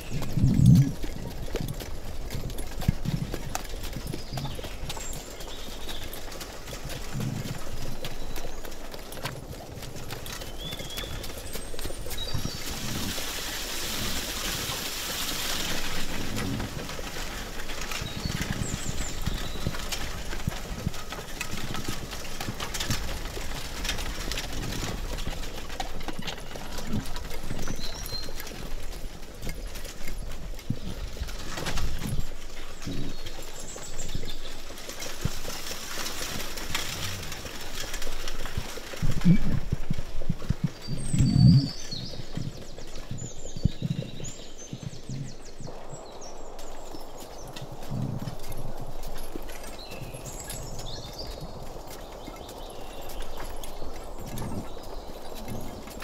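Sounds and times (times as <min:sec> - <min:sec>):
horse hooves clip-clopping: 0:00.0 - 0:56.0.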